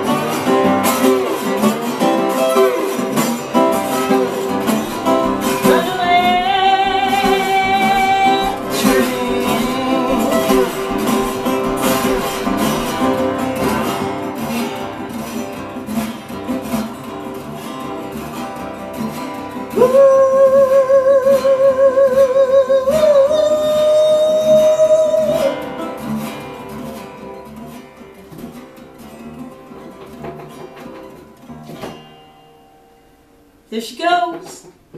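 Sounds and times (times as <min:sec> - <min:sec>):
resonator guitar blues rhythm: 0:00.0 - 0:34.9.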